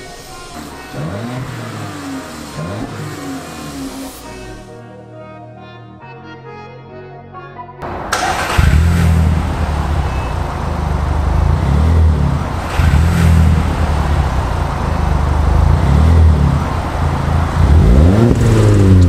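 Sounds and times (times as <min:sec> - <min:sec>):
car engine through loud exhaust: 0:00.0 - 0:04.7, 0:07.8 - 0:19.0.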